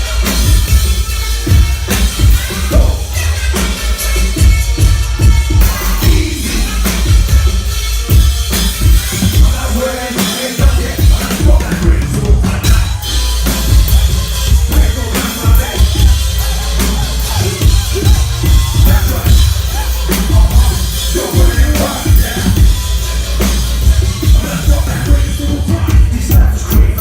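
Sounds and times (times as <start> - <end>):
electronic hip-hop dance music: 0.0 - 27.0.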